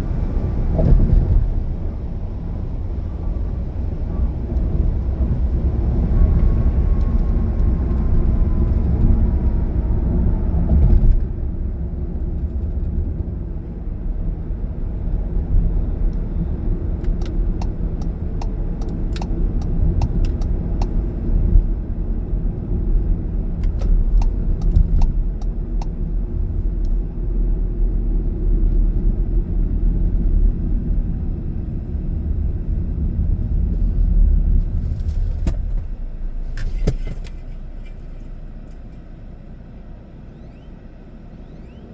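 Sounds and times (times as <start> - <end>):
engine and tyre rumble: 0.0 - 41.9.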